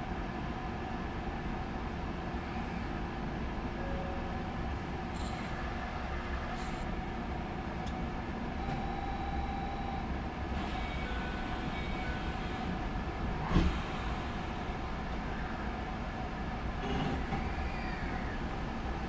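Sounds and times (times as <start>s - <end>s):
train equipment hum and rumble: 0.0s - 19.0s.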